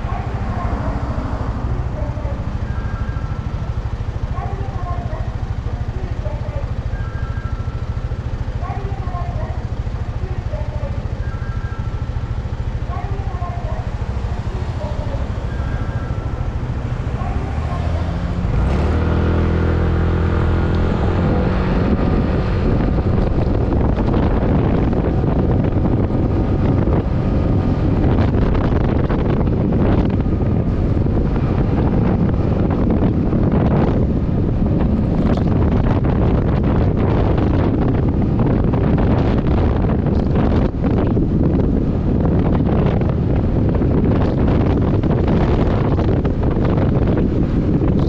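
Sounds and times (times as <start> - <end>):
scooter engine: 0.0 - 48.0
wind buffeting microphone: 0.0 - 48.0.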